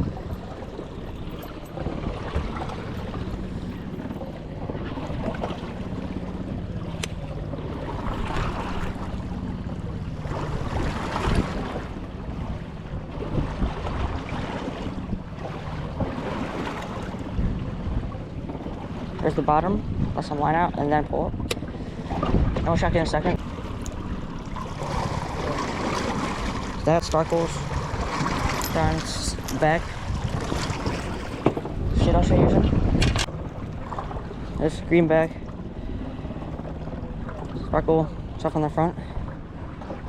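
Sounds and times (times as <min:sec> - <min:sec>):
boat motor humming: 0:00.0 - 0:40.0
water washing in swells: 0:00.0 - 0:40.0
wind buffeting microphone: 0:00.0 - 0:40.0.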